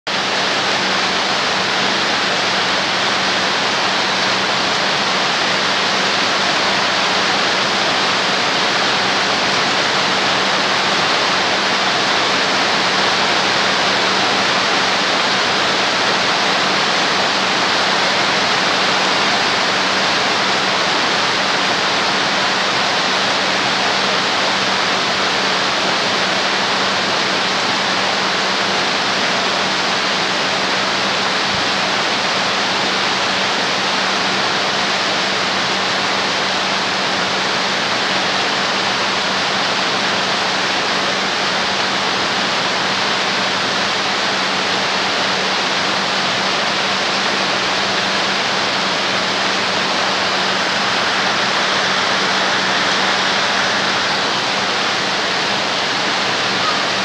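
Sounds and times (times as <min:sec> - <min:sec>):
heavy rain on metal roof: 0:00.1 - 0:57.0.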